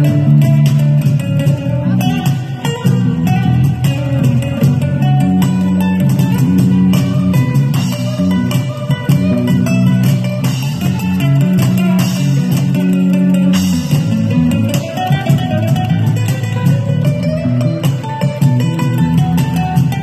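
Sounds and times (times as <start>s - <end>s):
acoustic guitar picked and strummed: 0.0s - 20.0s
bass line: 0.0s - 20.0s.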